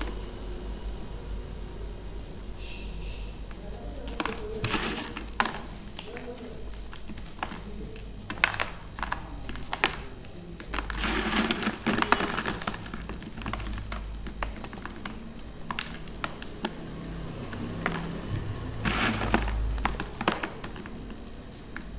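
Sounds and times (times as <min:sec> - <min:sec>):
baking soda chunks crunching: 0:00.0 - 0:21.9.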